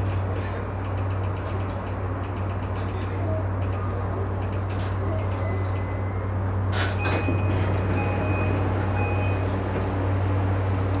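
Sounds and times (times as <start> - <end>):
electric train hum: 0.0 - 11.0.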